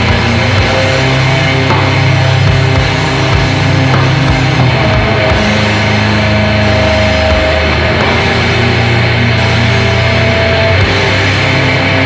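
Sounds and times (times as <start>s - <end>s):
distorted guitar and bass chords: 0.0s - 12.0s
drums: 0.0s - 12.0s.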